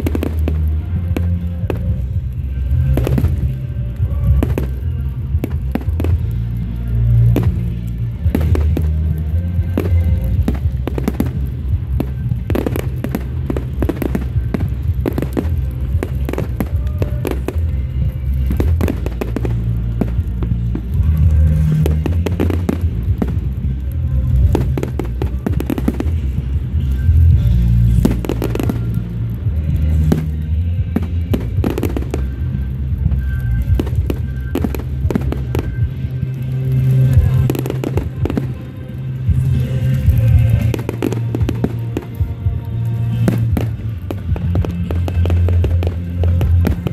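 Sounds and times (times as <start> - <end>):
fireworks bursting and crackling: 0.0 - 46.9
music with heavy bass: 0.0 - 46.9.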